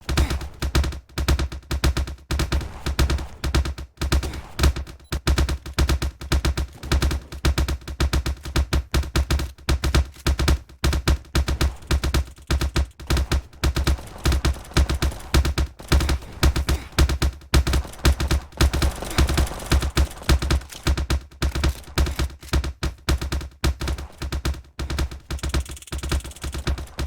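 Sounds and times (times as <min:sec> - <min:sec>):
sharp cracks with low thuds: 0:00.0 - 0:27.0.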